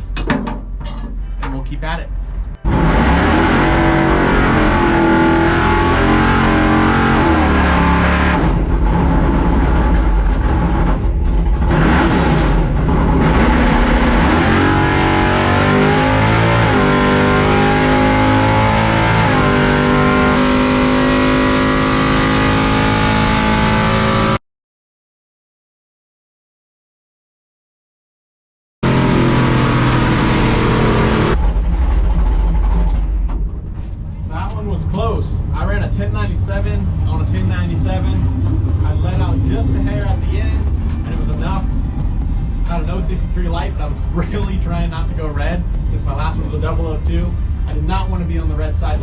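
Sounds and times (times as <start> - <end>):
truck engine revving: 2.5 - 24.4, 28.8 - 33.5, 34.3 - 49.0.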